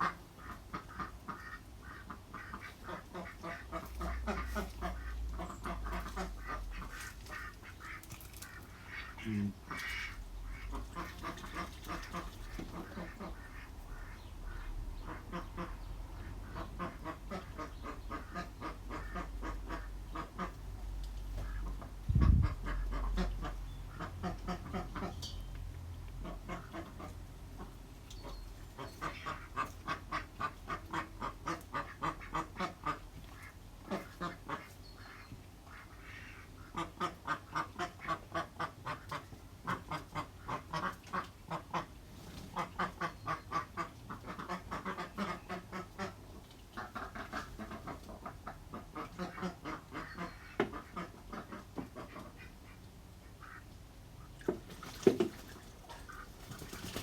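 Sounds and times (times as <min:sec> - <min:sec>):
ducks quacking: 0:00.0 - 0:25.3, 0:26.2 - 0:57.0.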